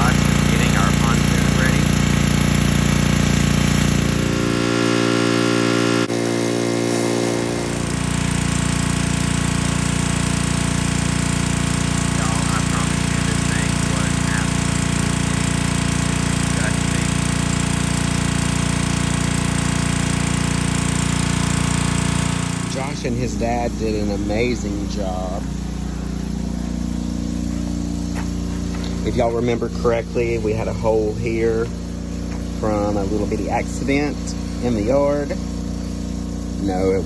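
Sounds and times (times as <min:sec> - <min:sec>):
pressure washer engine running: 0:00.0 - 0:37.0.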